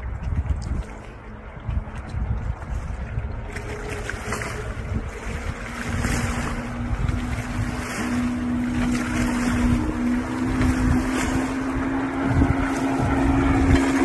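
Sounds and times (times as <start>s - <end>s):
engine drone on water: 0.0s - 14.0s
wind rumble on microphone: 0.0s - 14.0s.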